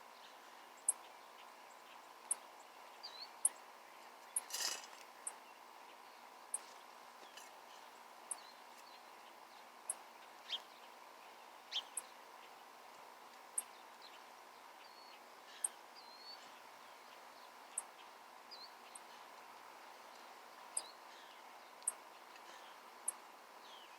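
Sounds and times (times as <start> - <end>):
small birds chipping: 0.0 - 23.9.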